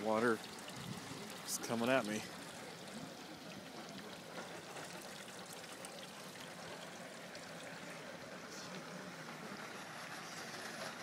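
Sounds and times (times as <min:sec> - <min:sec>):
water running across pavement: 0:00.0 - 0:11.0.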